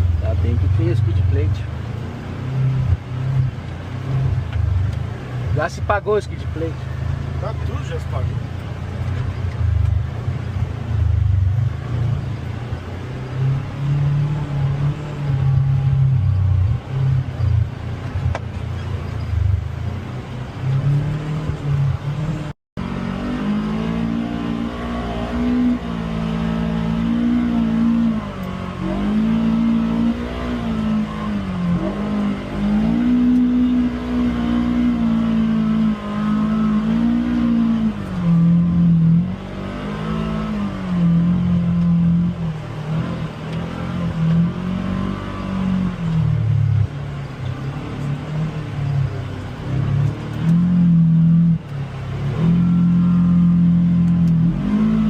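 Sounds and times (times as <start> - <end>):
utility vehicle engine revving: 0.0 - 55.0.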